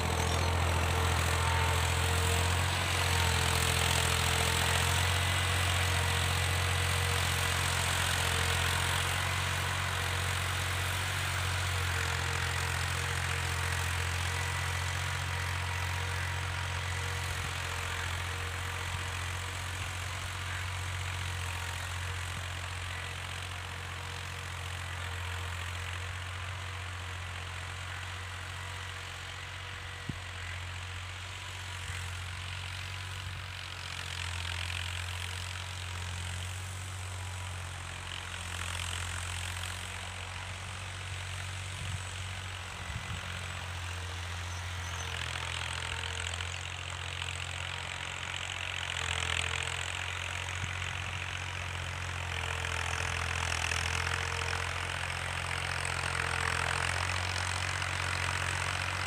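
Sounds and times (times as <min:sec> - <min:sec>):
distant tractor diesel engine: 0:00.0 - 0:59.0.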